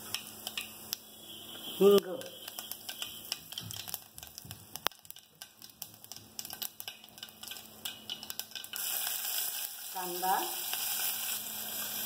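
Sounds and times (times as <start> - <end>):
oil sizzling: 0.0 - 12.0
seeds popping in hot oil: 0.0 - 12.0.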